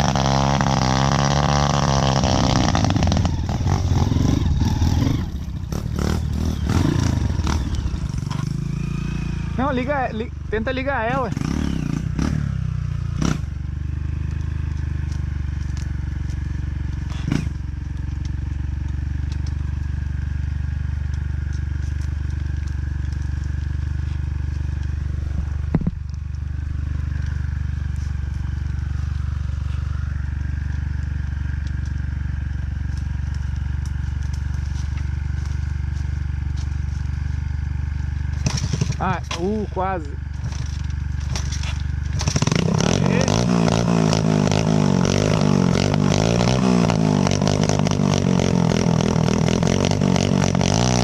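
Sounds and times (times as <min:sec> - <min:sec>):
motorcycle engine idling: 0:01.5 - 0:50.8.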